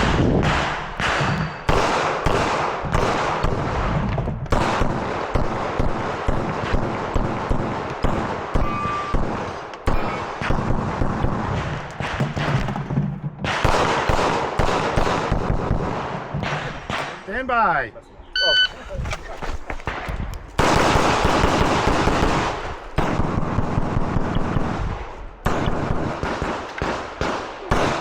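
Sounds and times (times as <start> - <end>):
pistol shots: 0.0 - 17.3, 19.9 - 28.0.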